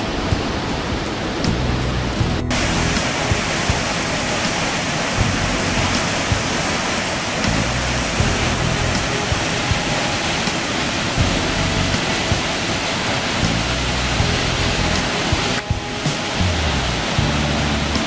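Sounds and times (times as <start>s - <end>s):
waterfall roaring: 0.0s - 18.0s
wind rumble on microphone: 0.0s - 18.0s.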